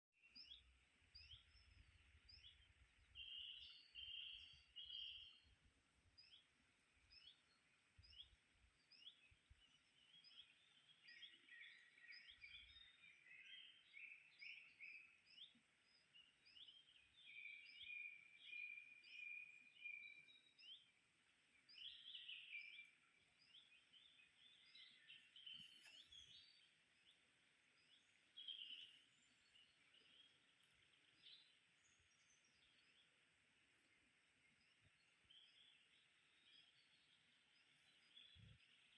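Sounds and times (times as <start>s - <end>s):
songbirds singing and calling: 0.2s - 38.9s.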